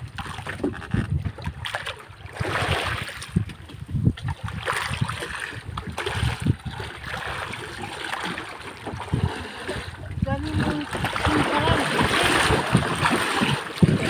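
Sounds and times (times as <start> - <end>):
water splashing against boat hull: 0.0 - 14.0
wind buffeting microphone: 0.0 - 14.0.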